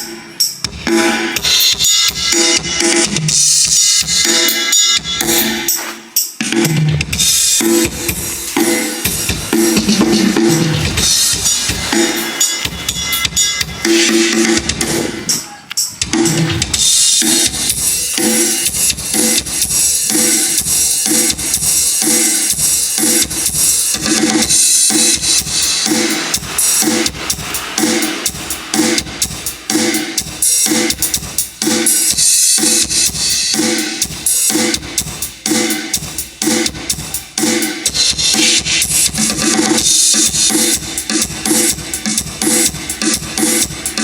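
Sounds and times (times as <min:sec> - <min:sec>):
drum-heavy music through speaker: 0:00.0 - 0:44.0.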